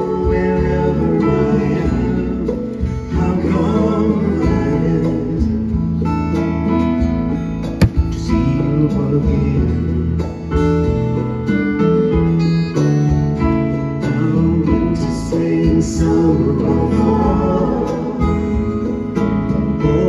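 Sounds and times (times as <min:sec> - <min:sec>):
live band music: 0:00.0 - 0:20.0
strummed acoustic guitar: 0:00.0 - 0:20.0.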